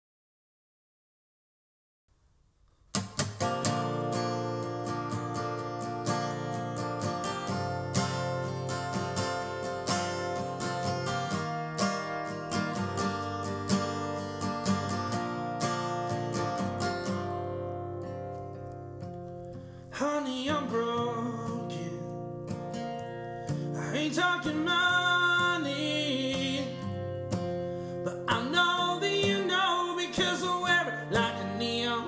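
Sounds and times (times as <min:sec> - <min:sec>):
faint room hiss: 0:02.1 - 0:32.0
acoustic guitar strumming: 0:02.8 - 0:32.0.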